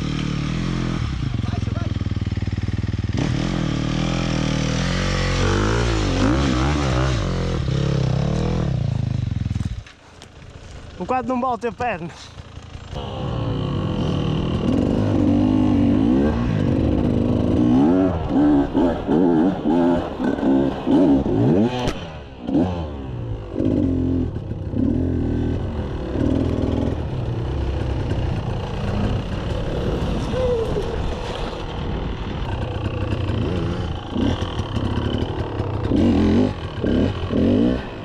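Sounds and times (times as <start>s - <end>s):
dirt bike engine revving: 0.0s - 9.8s, 12.3s - 38.0s.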